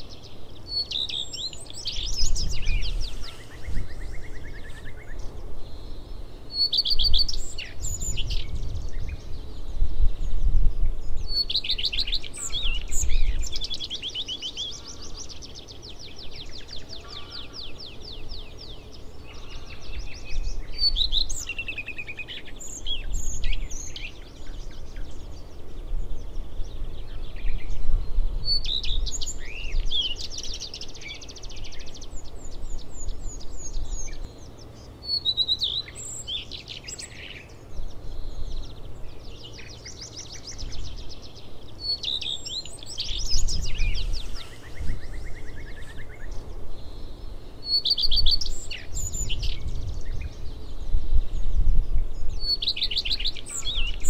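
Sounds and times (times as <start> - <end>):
bird singing with trills: 0.0 - 54.0.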